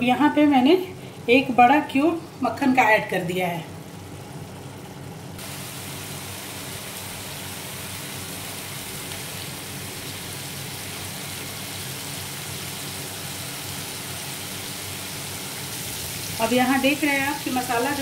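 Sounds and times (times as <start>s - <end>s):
food sizzling in a frying pan: 1.5s - 18.0s.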